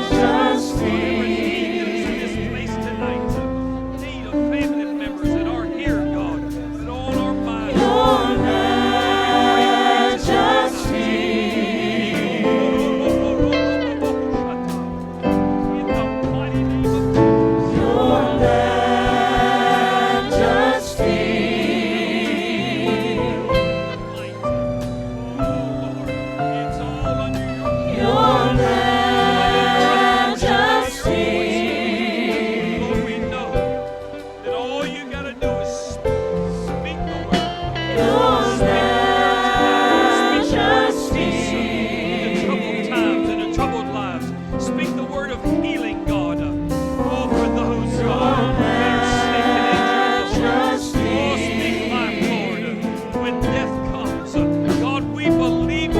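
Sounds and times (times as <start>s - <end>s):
choir singing gospel: 0.0s - 55.9s
instrumental accompaniment: 0.0s - 55.9s.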